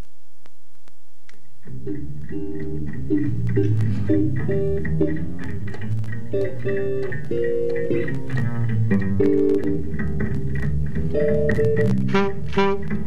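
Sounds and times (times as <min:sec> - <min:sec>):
instrumental theme music: 0:01.7 - 0:13.0.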